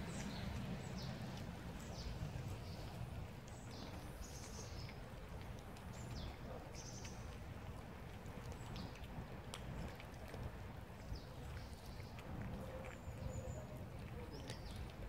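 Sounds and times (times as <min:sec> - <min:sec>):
small birds chirping: 0:00.0 - 0:07.6, 0:08.4 - 0:10.1, 0:10.7 - 0:15.0
cats chewing and licking: 0:00.0 - 0:15.0
low outdoor rumble: 0:00.0 - 0:15.0.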